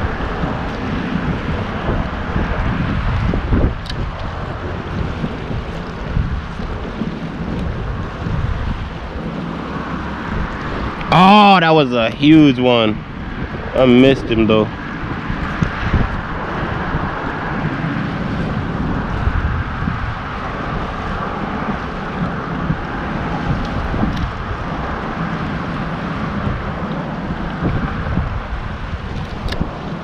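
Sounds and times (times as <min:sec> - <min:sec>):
rushing water: 0:00.0 - 0:30.0
rushing wind: 0:00.0 - 0:30.0
wind buffeting microphone: 0:00.0 - 0:30.0.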